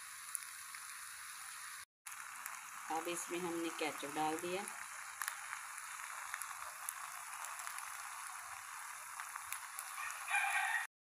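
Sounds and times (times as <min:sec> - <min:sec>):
food sizzling in a frying pan: 0:00.0 - 0:10.9.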